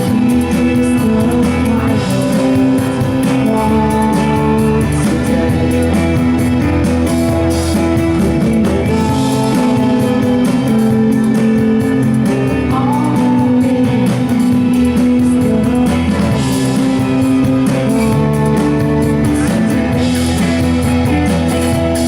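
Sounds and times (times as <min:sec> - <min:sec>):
guitars holding long notes: 0:00.0 - 0:22.0
live rock band playing: 0:00.0 - 0:22.0.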